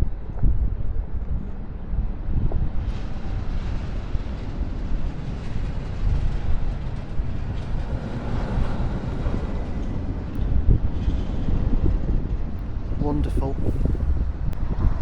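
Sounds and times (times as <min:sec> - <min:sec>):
roller coaster train rumbling on track: 0:00.0 - 0:15.0
wind buffeting microphone: 0:00.0 - 0:15.0.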